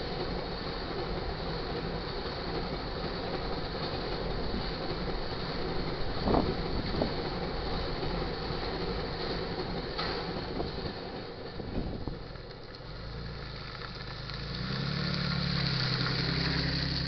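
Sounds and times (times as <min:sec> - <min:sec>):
freight train rolling past: 0:00.0 - 0:17.0
road vehicle engine hum: 0:00.0 - 0:17.0
train wheels clicking over rails: 0:00.0 - 0:17.0.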